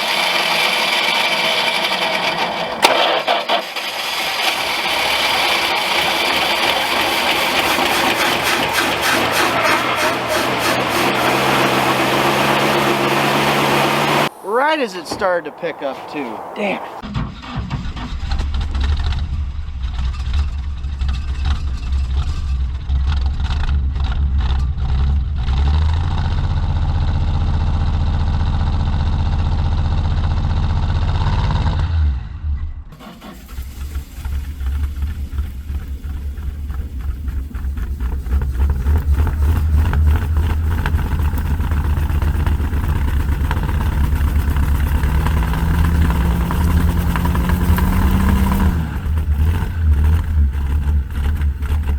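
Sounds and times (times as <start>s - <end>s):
truck engine running rough: 0.0s - 14.3s, 17.2s - 31.8s, 33.0s - 51.9s.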